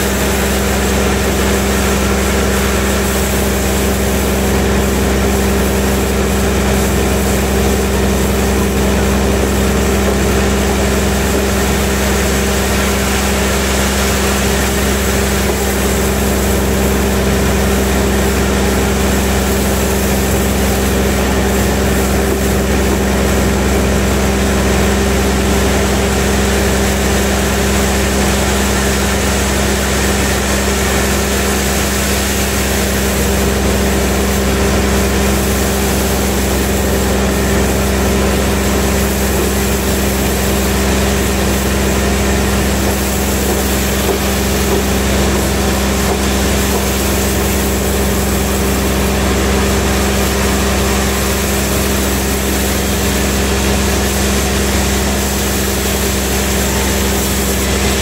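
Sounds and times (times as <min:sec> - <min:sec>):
band sawmill humming: 0:00.0 - 0:58.0.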